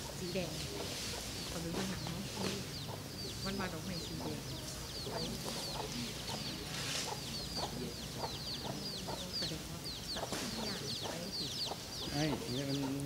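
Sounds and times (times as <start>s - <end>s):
low clucking bird calls: 0.0s - 13.0s.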